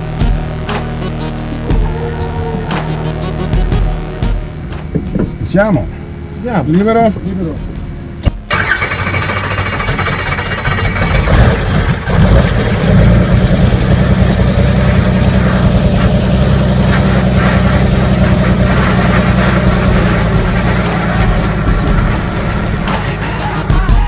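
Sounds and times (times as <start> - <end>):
helicopter engine cranking and running: 3.6 - 24.0.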